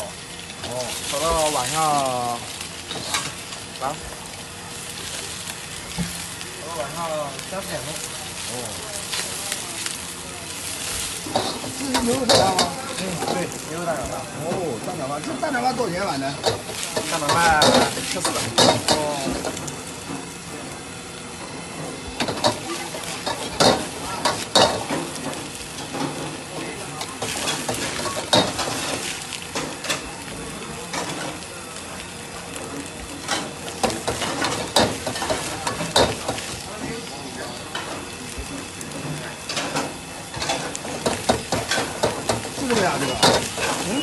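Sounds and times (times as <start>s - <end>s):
rice sizzling in a wok: 0.0s - 44.0s.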